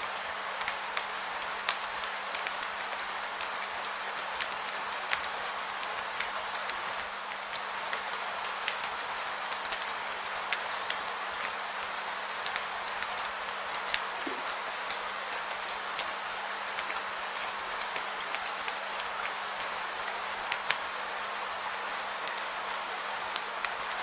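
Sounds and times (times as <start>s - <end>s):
raindrops ticking on a surface: 0.0s - 24.0s
steady rain hiss: 0.0s - 24.0s.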